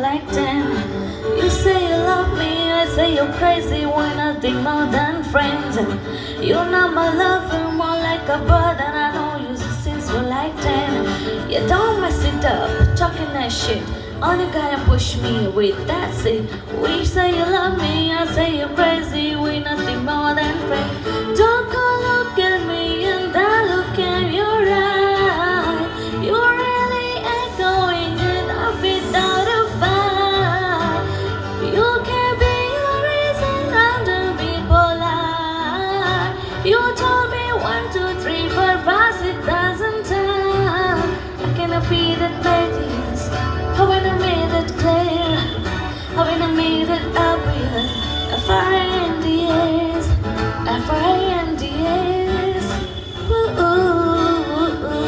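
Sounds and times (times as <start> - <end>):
woman singing a melody: 0.0 - 55.0.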